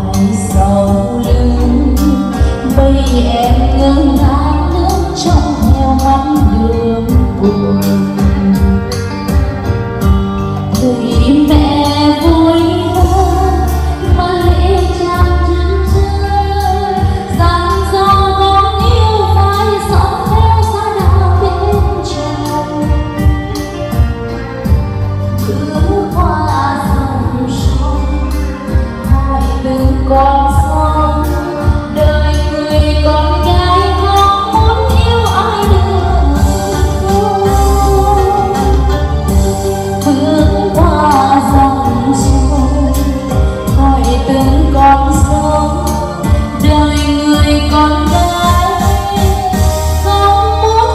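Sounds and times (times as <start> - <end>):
bass line: 0.0 - 50.9
woman singing: 0.0 - 50.9.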